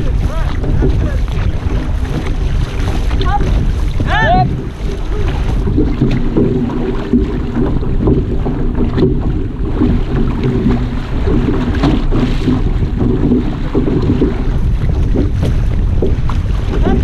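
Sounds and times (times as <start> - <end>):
paddle strokes splashing: 0.0 - 17.0
water rushing along hull: 0.0 - 17.0
wind buffeting microphone: 0.0 - 17.0.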